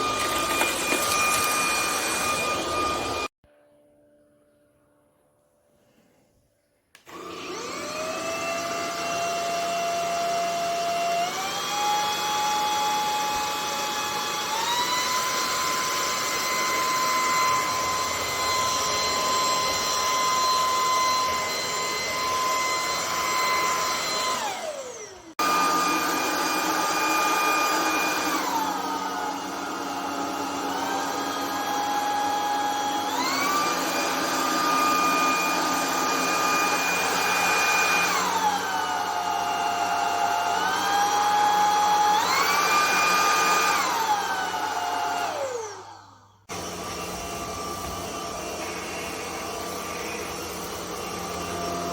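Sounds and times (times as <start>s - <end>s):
stick vacuum motor whining: 0.0s - 3.3s, 7.0s - 51.9s.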